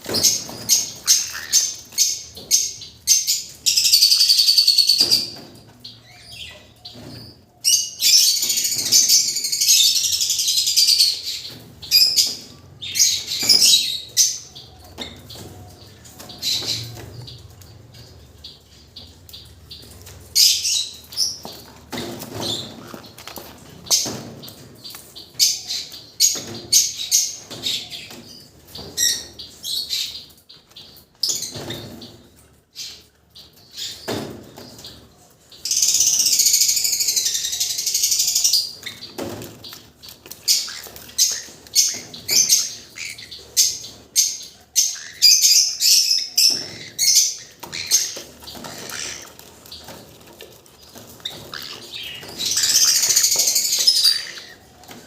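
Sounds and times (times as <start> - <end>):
baby parrots chirping and squeaking: 0.0 - 32.2, 35.6 - 55.0.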